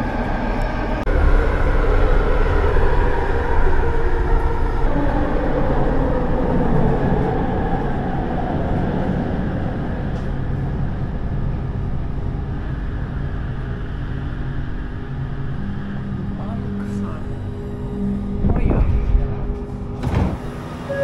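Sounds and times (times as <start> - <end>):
train car running rumble: 0.0 - 21.0.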